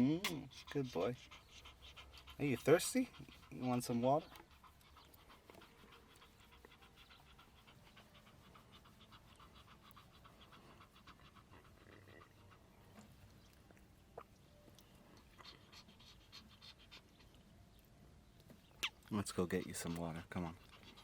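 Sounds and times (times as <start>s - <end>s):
dog panting: 0.0s - 14.2s, 14.8s - 17.9s, 18.7s - 21.0s.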